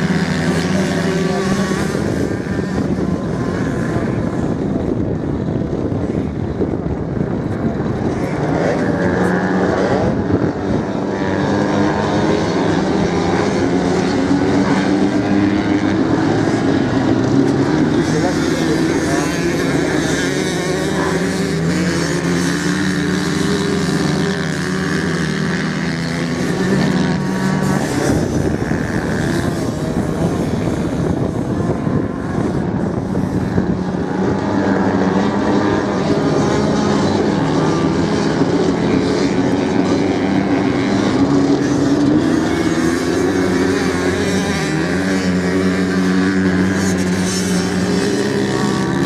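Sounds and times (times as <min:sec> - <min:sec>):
motorcycle engines racing: 0:00.0 - 0:49.0.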